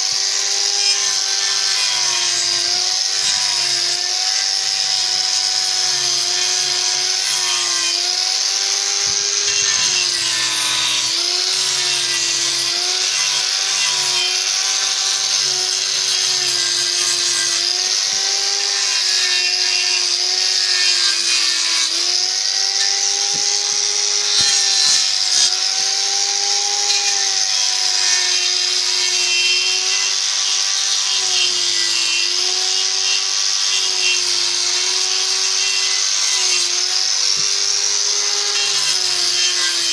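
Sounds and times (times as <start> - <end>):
power tool motor whine: 0.0 - 39.9.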